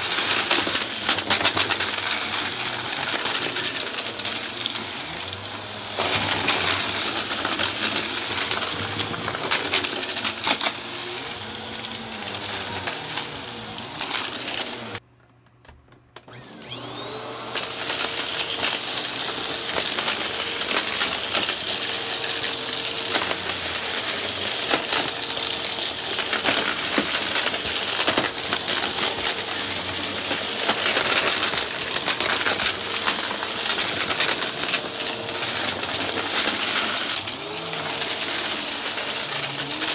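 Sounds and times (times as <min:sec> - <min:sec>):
debris rattling through vacuum: 0:00.0 - 0:11.2, 0:17.6 - 0:39.9
vacuum cleaner motor hum: 0:00.0 - 0:15.0, 0:16.2 - 0:39.9.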